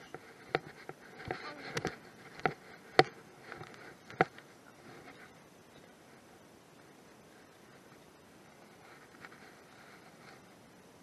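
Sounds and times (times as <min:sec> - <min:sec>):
footsteps in dry grass: 0:00.0 - 0:10.7.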